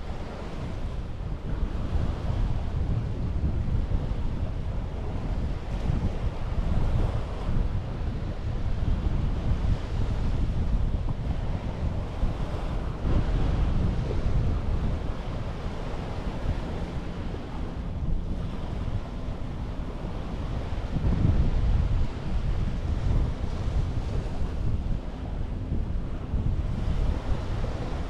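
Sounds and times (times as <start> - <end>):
sea waves washing on shore: 0.0 - 28.0
wind rumbling on microphone: 0.0 - 28.0.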